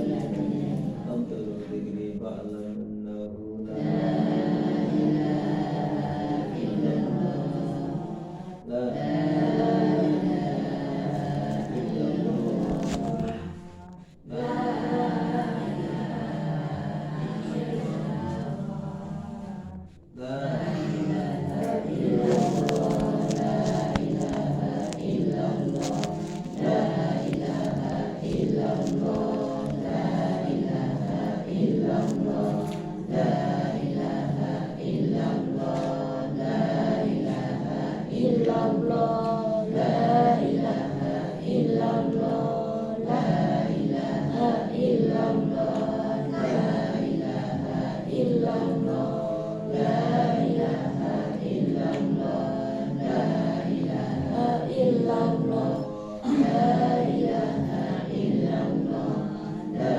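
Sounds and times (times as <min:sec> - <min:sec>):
congregation chanting: 0:00.0 - 0:59.9.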